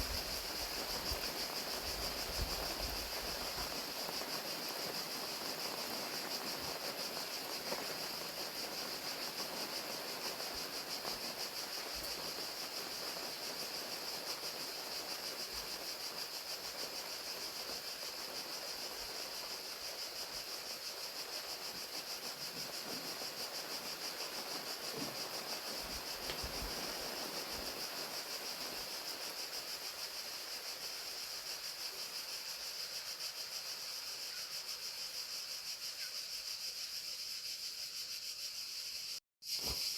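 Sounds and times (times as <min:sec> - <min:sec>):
crickets chirping: 0:00.0 - 0:39.9
rain hiss: 0:00.0 - 0:39.9.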